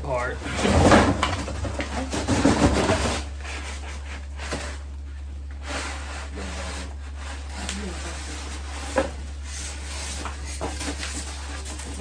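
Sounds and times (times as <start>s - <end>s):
steady low hum: 0.0s - 12.0s
packaging rustling and scraping: 0.1s - 12.0s.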